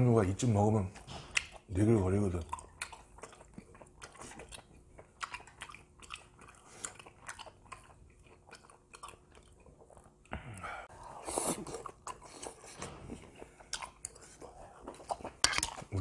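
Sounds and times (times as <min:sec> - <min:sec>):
close chewing and biting: 0:00.8 - 0:10.4, 0:11.2 - 0:16.0.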